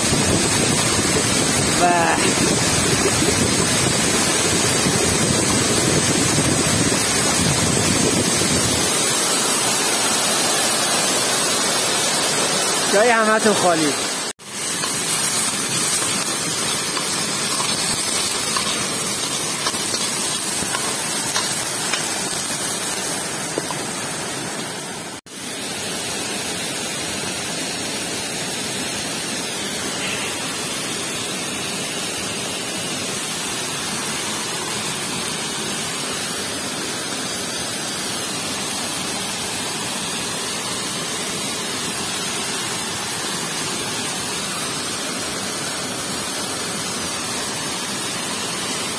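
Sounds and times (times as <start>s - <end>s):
stream and waterfall rushing: 0.0s - 48.9s.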